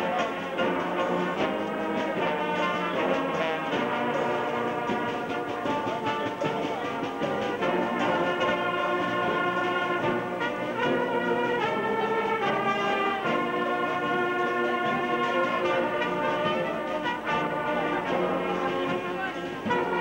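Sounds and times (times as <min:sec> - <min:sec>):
marching brass band playing: 0:00.0 - 0:20.0.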